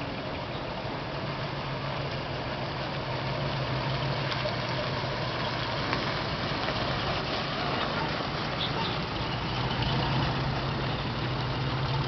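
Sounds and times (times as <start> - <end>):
diesel truck engines running: 0.0 - 12.0.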